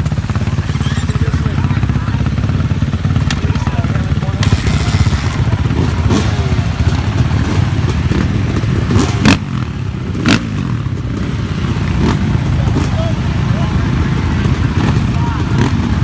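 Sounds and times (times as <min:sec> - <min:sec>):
dirt bike engines revving: 0:00.0 - 0:16.0
heavy choppy rumble: 0:00.0 - 0:16.0.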